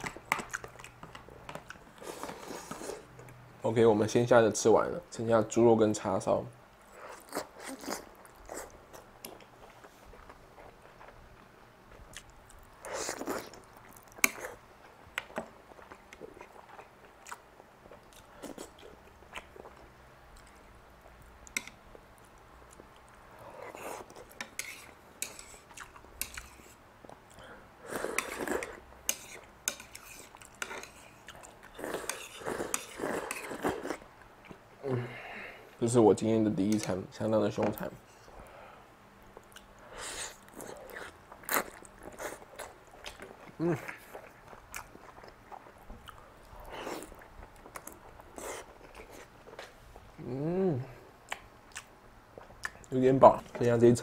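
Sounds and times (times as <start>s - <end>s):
person chewing noodles: 0.0s - 3.4s, 6.9s - 34.6s, 39.3s - 50.5s, 51.2s - 52.9s.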